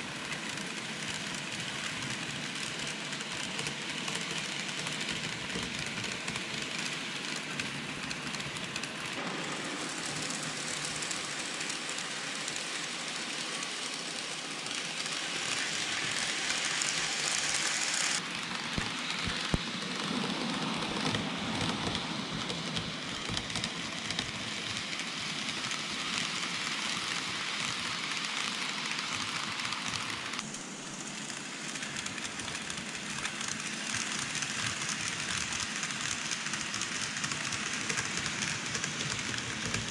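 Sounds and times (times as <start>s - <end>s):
model train wheels rattling and whirring: 0.0s - 39.9s.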